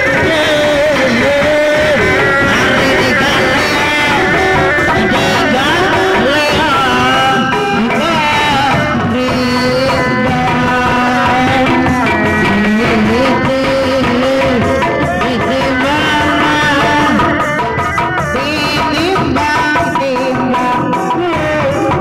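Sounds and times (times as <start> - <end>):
drumming: 0.0 - 22.0.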